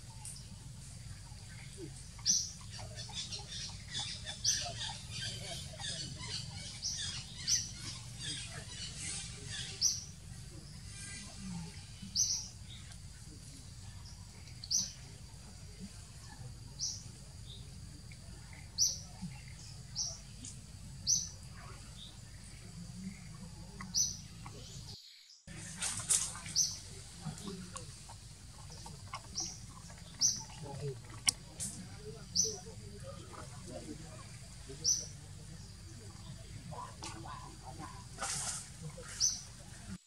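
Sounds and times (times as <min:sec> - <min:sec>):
bird chirping: 0:00.0 - 0:40.0
low outdoor background noise: 0:00.0 - 0:40.0.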